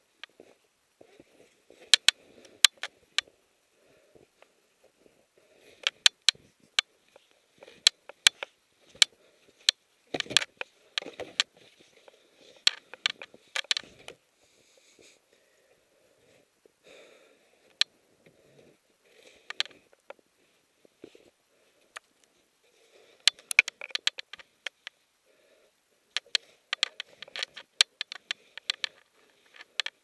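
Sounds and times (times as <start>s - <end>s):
hard breathing: 0.2s - 30.0s.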